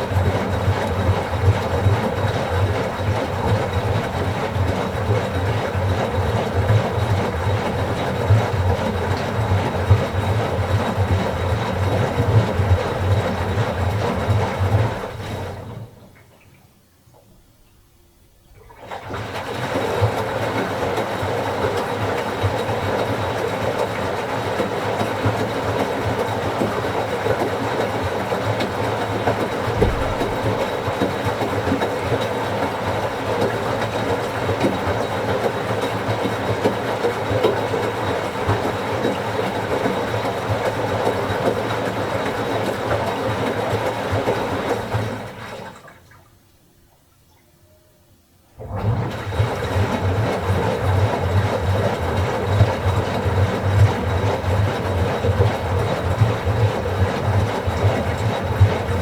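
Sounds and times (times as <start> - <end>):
washing machine motor hum: 0.0 - 16.2, 18.5 - 46.0, 48.6 - 59.0
washing machine churning water: 0.0 - 16.5, 18.5 - 47.0, 48.6 - 59.0.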